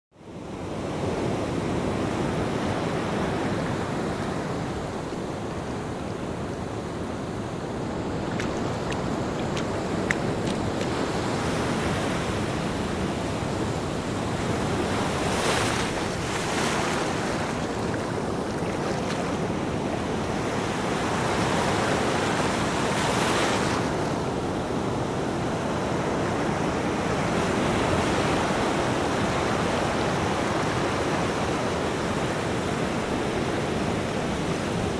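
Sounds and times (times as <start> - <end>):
ocean waves breaking on beach: 0.2 - 34.9.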